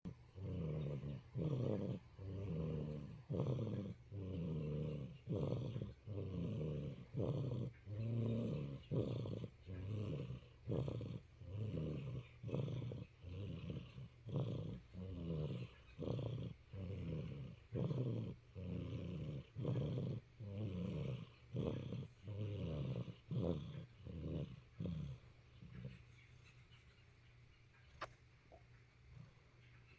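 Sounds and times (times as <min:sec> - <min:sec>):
cat purring: 0:00.0 - 0:26.9.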